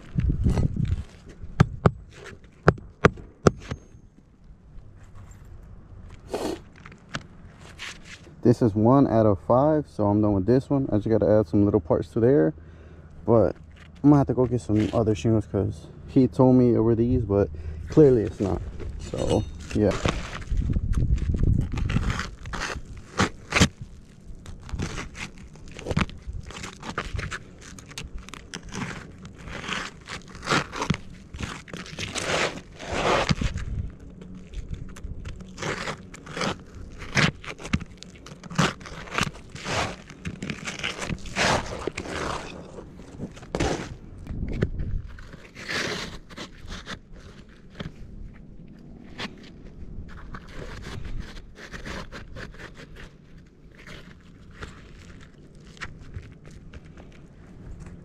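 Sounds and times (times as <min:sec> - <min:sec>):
boots and hands scraping shingles: 0:00.0 - 0:08.4, 0:13.4 - 0:15.5, 0:17.9 - 0:58.0.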